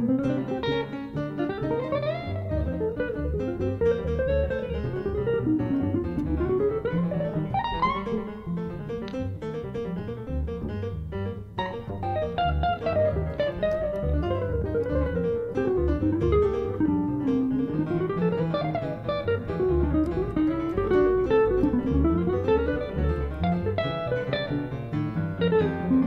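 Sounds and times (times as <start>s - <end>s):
bass line: 0.0s - 26.0s
jazz guitar solo: 0.0s - 26.0s.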